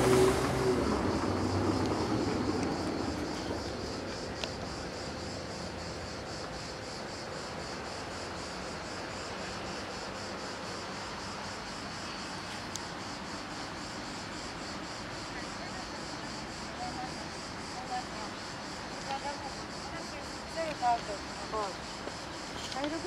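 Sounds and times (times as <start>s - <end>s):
insect chirping: 0.0s - 23.0s
outdoor background noise: 0.0s - 23.0s.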